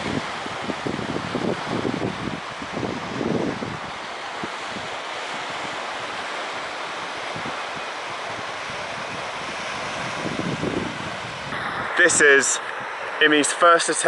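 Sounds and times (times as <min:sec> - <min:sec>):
wind buffeting microphone: 0:00.0 - 0:13.6
waves on a stony beach: 0:00.0 - 0:14.0.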